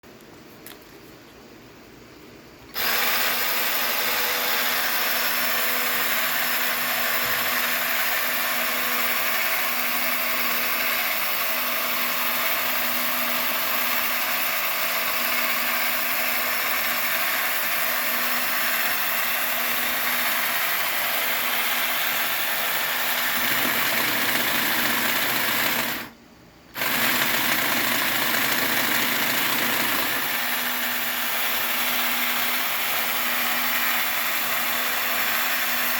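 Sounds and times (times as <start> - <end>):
power tool motor running: 2.7 - 35.9.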